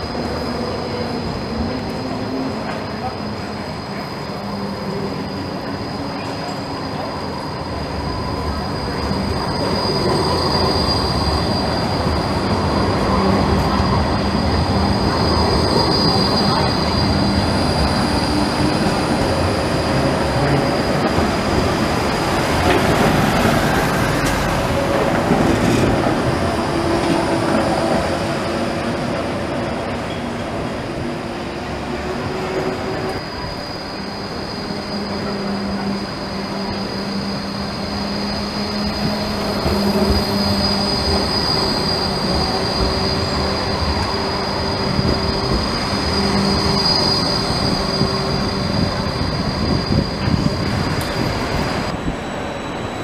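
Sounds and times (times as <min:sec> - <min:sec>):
steel wheels squealing: 0:00.0 - 0:53.0.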